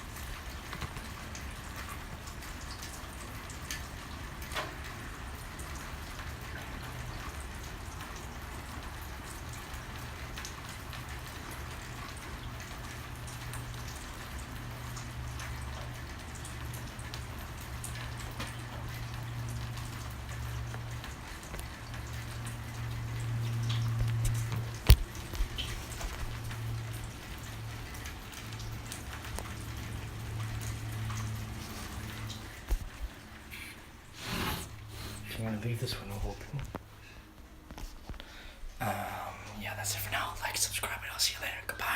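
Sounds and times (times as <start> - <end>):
rain hiss: 0.0 - 41.9.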